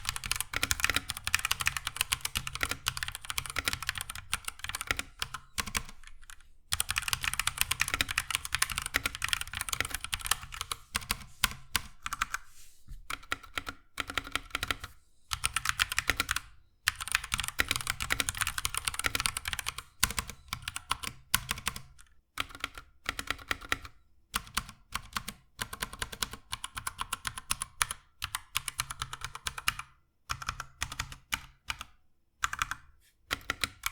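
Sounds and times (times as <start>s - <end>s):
mechanical keyboard typing: 0.0s - 12.4s, 13.1s - 33.9s.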